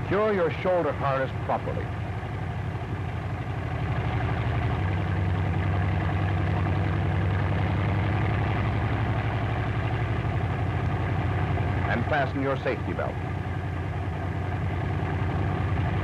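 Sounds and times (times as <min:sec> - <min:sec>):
aircraft engine idling: 0:00.0 - 0:16.0.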